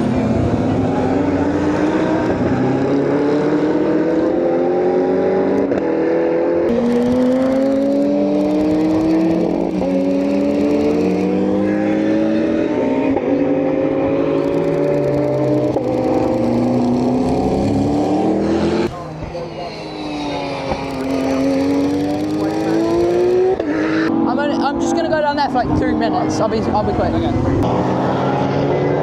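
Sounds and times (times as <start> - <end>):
race car engines accelerating: 0.0 - 29.0.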